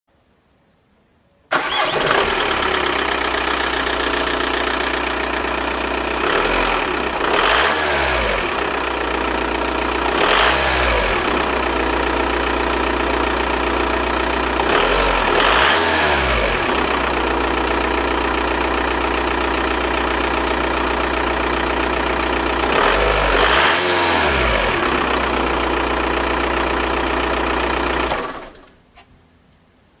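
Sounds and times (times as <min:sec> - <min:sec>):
diesel engine idling and revving: 0:01.5 - 0:28.7.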